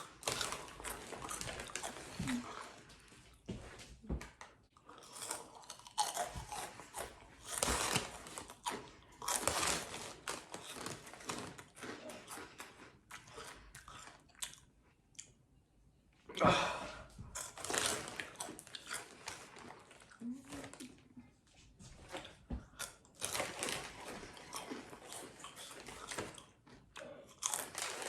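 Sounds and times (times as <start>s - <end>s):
crunching and chewing snacks: 0.0s - 3.5s, 4.2s - 15.4s, 17.3s - 21.2s, 22.0s - 28.0s.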